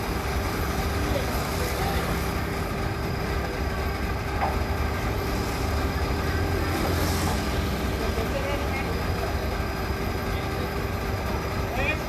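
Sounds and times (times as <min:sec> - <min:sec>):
low machinery rumble: 0:00.0 - 0:12.0.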